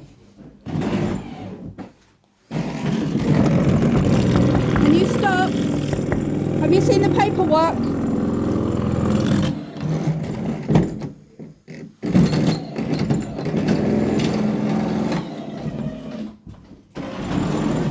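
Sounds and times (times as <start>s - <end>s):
power drill boring through door: 0.7s - 1.7s, 2.5s - 11.1s, 12.0s - 17.9s.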